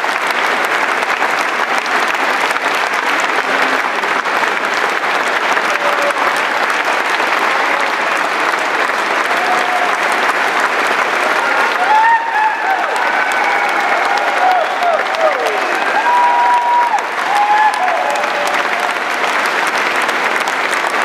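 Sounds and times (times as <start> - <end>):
large audience clapping: 0.0 - 21.0.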